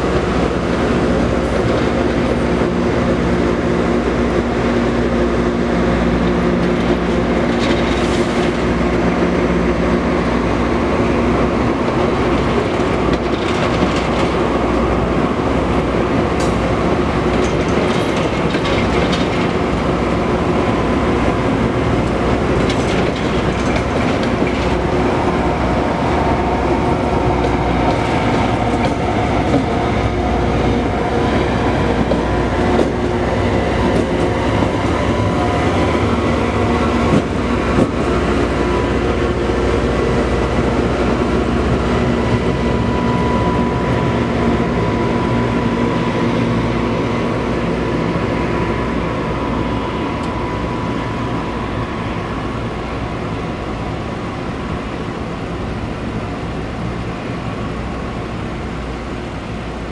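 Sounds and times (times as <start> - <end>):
rail grinder machinery din: 0.0 - 59.9.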